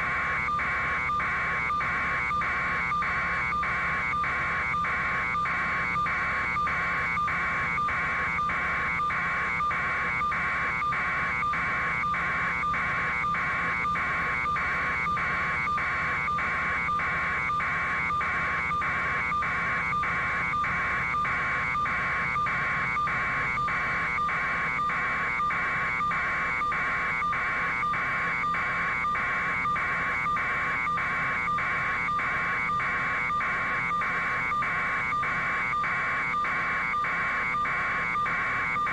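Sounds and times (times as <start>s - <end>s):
electronic warning buzzer: 0.0s - 38.9s.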